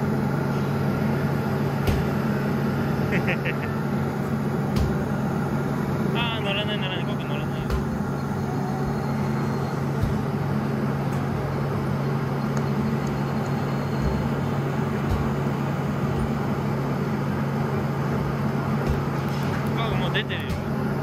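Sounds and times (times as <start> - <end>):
electric blower running: 0.0 - 21.0.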